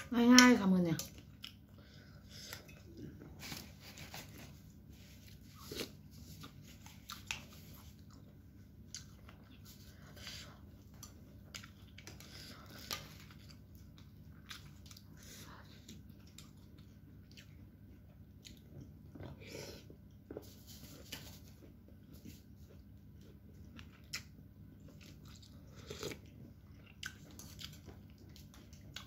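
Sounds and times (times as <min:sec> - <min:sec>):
person chewing: 0:01.0 - 0:29.0.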